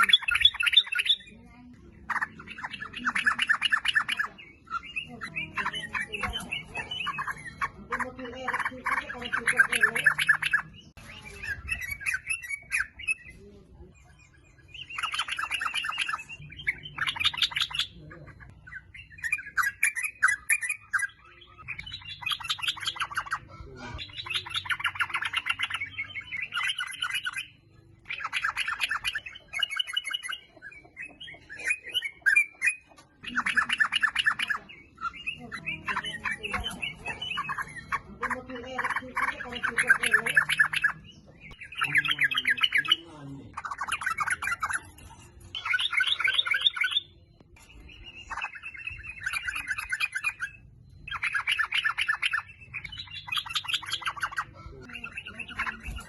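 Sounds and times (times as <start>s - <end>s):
bulbul singing and chattering: 0.0s - 56.0s.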